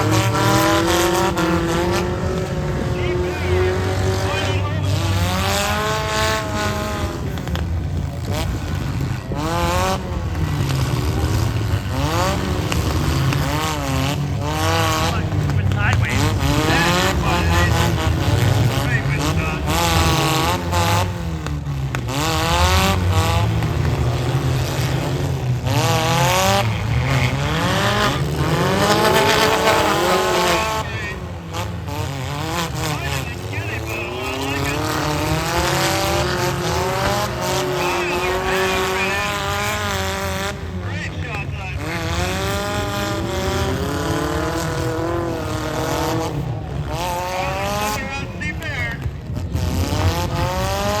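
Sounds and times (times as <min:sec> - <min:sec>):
car engines revving hard: 0:00.0 - 0:51.0
low rumble of running cars: 0:00.0 - 0:51.0.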